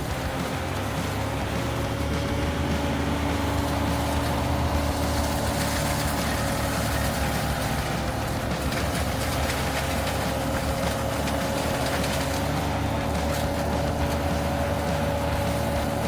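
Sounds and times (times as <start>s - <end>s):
heavy machine engine rumbling: 0.0s - 16.0s
high whine: 0.0s - 16.0s.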